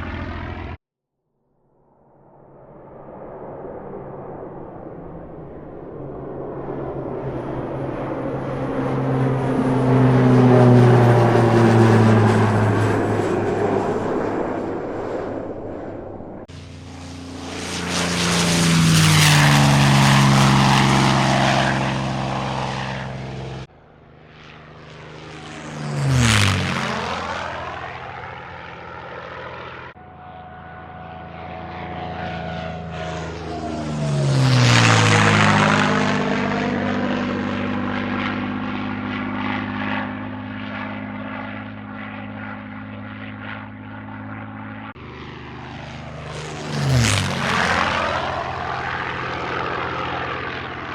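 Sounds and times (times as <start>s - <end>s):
propeller airplane flying past: 0.0s - 0.8s, 2.0s - 50.9s.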